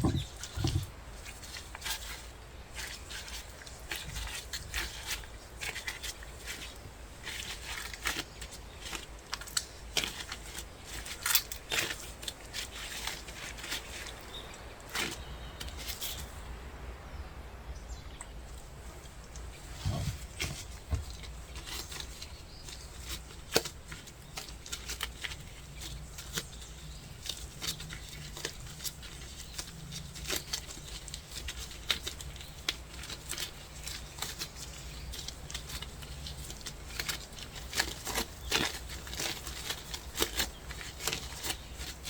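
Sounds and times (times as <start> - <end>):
wrap crinkling: 0.0 - 16.4, 18.5 - 42.0.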